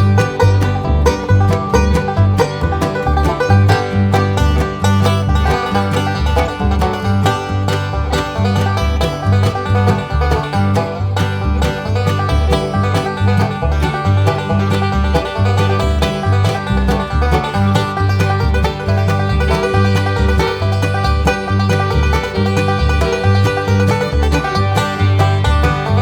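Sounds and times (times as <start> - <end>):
plucked-string bluegrass tune: 0.0 - 26.0
steady bass line: 0.0 - 26.0.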